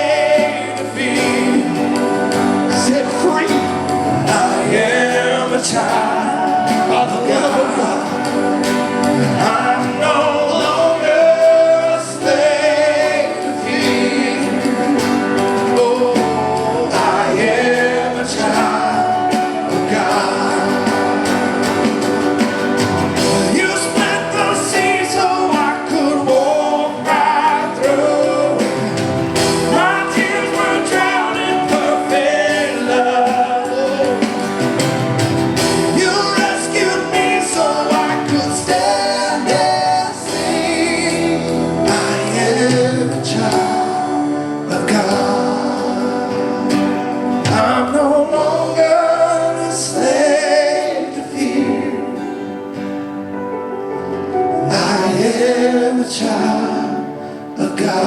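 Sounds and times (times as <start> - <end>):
singers singing worship song: 0.0 - 53.0, 54.5 - 58.0
band playing: 0.0 - 58.0.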